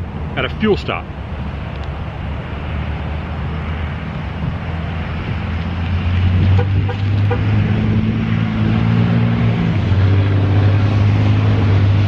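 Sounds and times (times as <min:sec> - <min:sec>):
traffic noise: 0:00.0 - 0:12.0
vehicle engine hum: 0:00.0 - 0:12.0.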